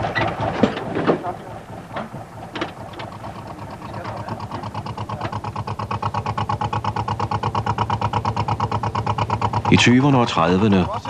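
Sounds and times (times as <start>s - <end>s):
boat engine pulsing: 0.0s - 11.0s.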